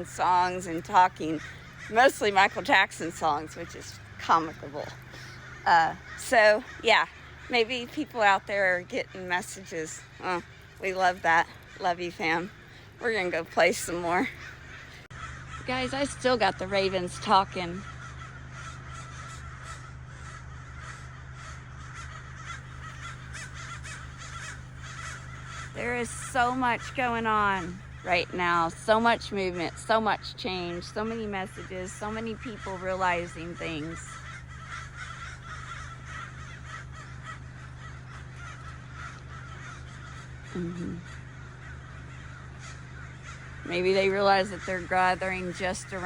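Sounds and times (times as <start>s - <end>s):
ravens calling hoarsely: 0.0s - 46.0s
steady low hum: 0.0s - 46.0s.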